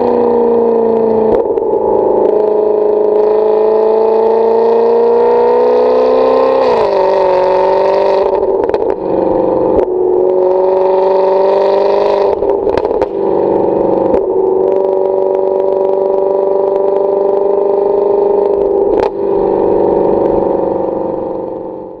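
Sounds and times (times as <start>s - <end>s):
car engine revving loudly: 0.0s - 22.0s.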